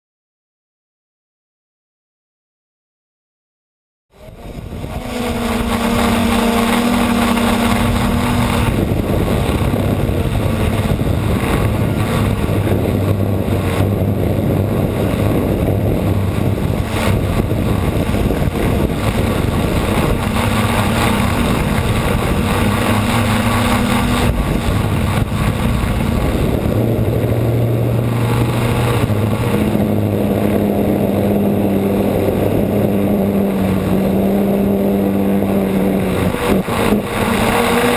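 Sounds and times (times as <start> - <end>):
wind noise: 4.1 - 37.9
model aircraft motor humming: 4.2 - 37.9.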